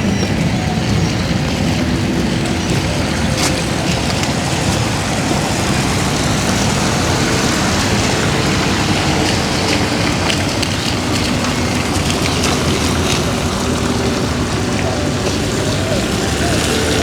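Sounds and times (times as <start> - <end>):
low rumble of traffic: 0.0 - 17.0
rain: 0.0 - 17.0.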